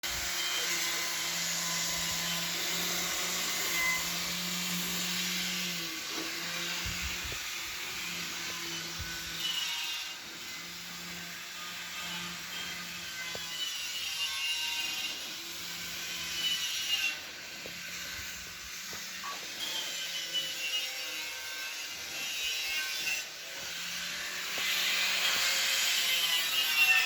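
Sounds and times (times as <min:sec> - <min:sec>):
power tool whirring: 0:00.0 - 0:27.0.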